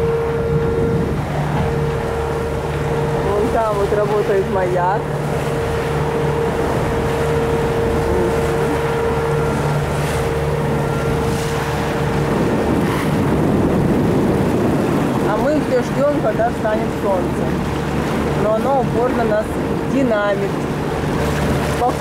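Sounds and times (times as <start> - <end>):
diesel engine running: 0.0 - 19.8
water rushing past hull: 0.0 - 22.0
wind on microphone: 0.0 - 22.0.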